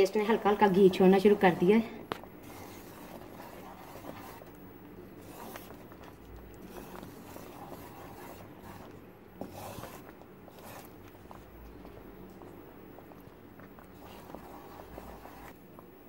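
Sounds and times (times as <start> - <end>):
spoon scraping thick paste in pan: 0.0 - 15.6.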